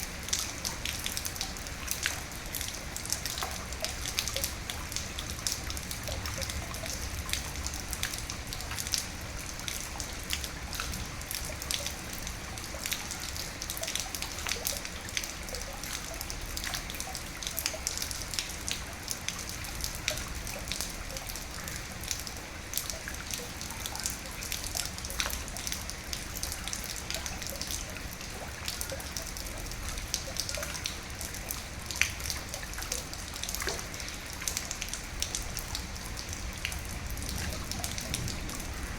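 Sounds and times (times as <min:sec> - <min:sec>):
rain drops ticking: 0:00.0 - 0:38.9
rain hiss: 0:00.0 - 0:38.9.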